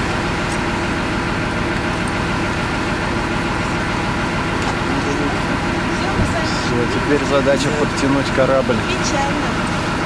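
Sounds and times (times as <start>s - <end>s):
motor boat engine idling: 0.0s - 10.0s.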